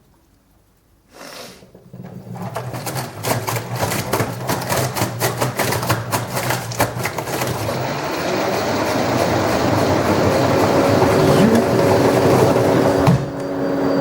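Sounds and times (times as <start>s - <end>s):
washing machine spin whir: 1.6s - 14.0s.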